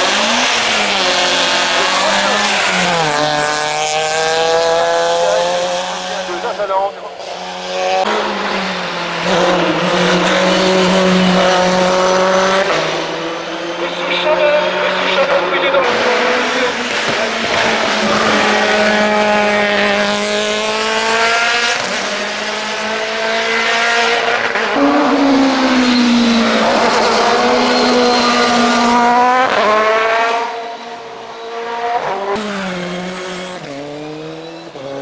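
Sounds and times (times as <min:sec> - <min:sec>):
race car engine accelerating: 0:00.0 - 0:35.0.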